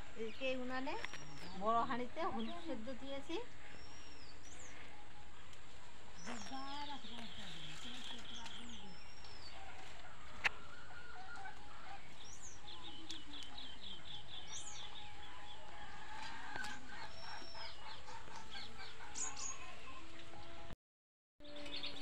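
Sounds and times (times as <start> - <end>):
birds chirping and calling: 0.0 - 20.6, 21.4 - 22.0.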